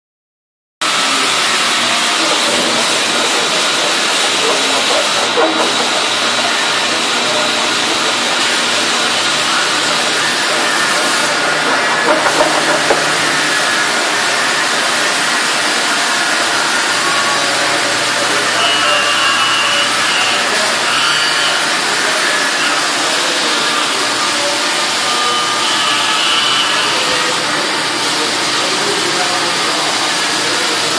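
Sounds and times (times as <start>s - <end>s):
cnc router hiss and whine: 0.8s - 30.9s.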